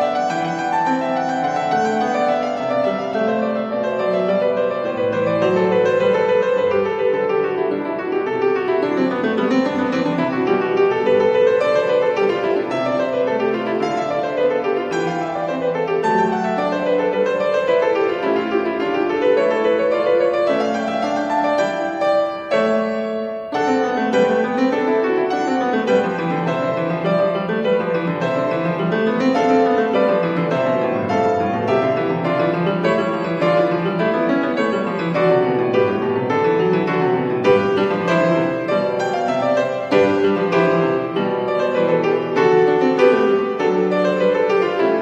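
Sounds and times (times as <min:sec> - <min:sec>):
solo piano piece: 0:00.0 - 0:45.0.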